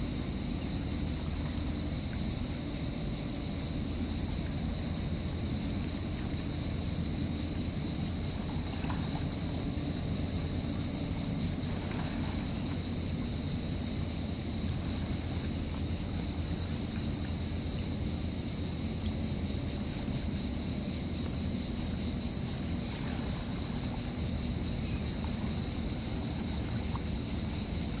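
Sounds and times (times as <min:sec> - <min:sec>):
cicadas singing: 0:00.0 - 0:28.0.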